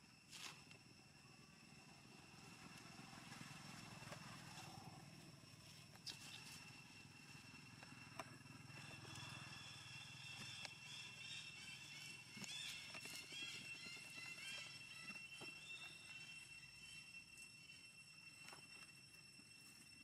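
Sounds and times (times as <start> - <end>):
thin steady high tone: 0.0 - 20.0.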